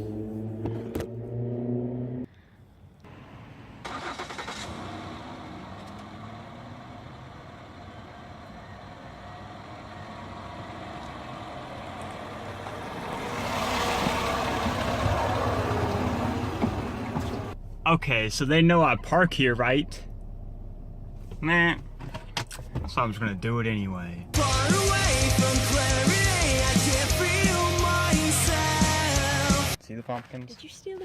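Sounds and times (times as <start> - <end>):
car engine starting and running: 0.0 - 29.8.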